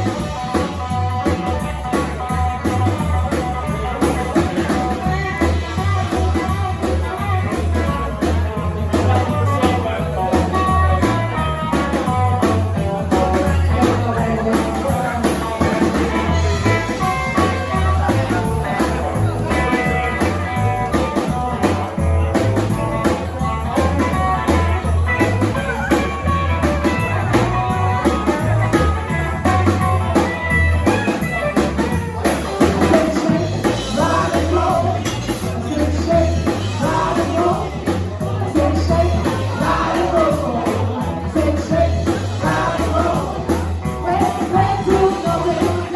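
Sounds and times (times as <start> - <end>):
drum kit: 0.0 - 45.9
electric guitar: 0.0 - 45.9
rock band playing live: 0.0 - 45.9
person singing: 2.6 - 22.4, 23.0 - 45.9.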